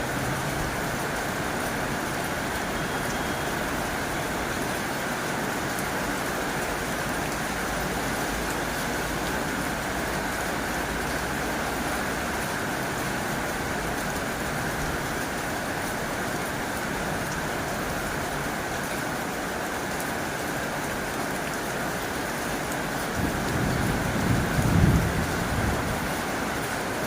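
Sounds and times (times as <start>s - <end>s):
heavy rain on a tin roof: 0.0s - 27.0s.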